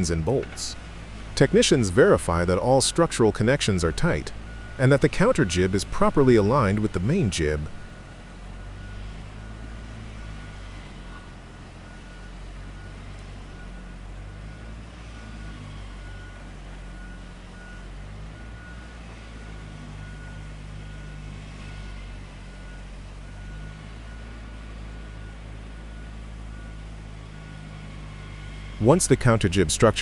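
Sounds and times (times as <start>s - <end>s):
heavy machinery engine rumbling: 0.0s - 30.0s.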